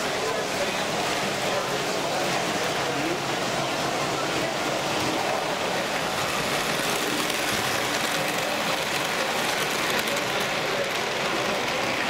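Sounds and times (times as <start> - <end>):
model train wheels on track: 0.0 - 12.0.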